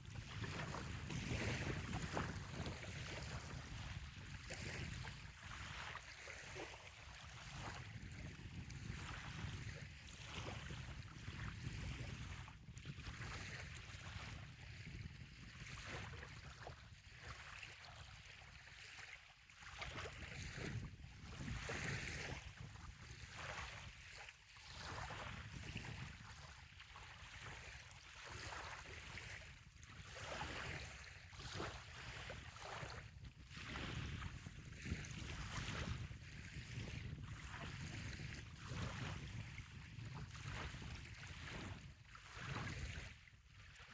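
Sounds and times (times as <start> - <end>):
wind rumble on microphone: 0.0 - 19.0, 19.6 - 43.3
small waves lapping on shore: 0.0 - 43.9.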